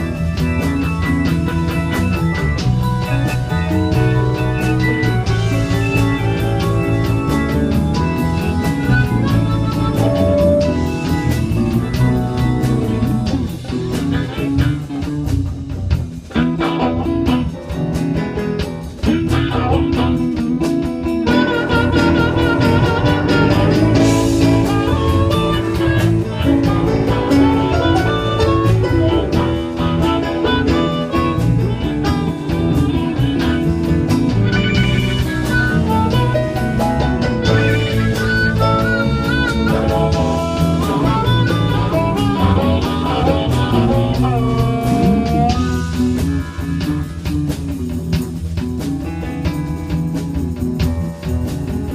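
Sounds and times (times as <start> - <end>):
lead guitar: 0.0 - 51.9
live blues band: 0.0 - 51.9.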